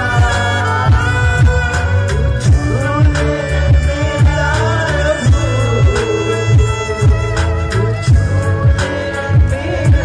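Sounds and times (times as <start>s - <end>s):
live worship band music: 0.0s - 10.0s.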